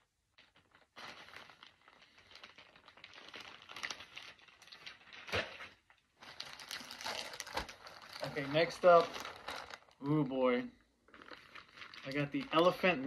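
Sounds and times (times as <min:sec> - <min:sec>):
plastic bags crinkling: 0:00.3 - 0:13.0.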